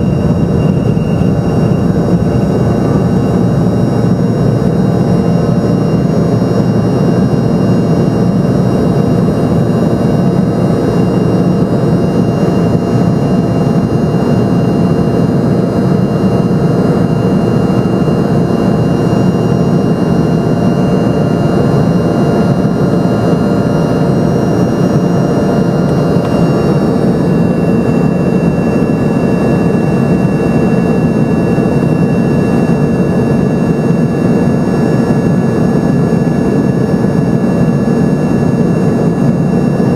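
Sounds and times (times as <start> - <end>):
engine whine: 0.0 - 39.9
jet engine cabin drone: 0.0 - 39.9.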